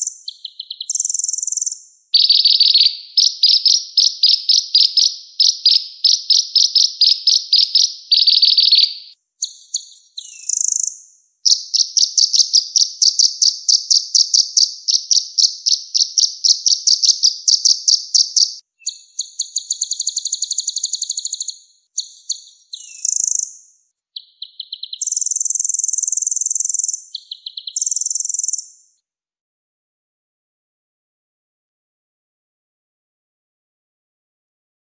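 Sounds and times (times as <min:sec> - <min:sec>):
bird song with trills: 0:00.0 - 0:29.0.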